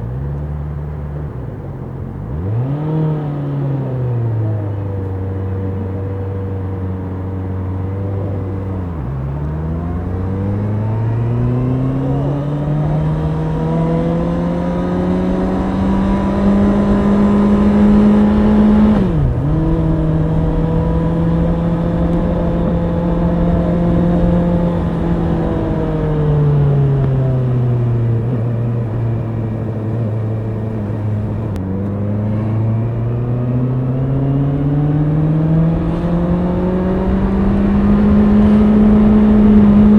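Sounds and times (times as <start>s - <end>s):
motorcycle engine running: 4.1s - 39.9s.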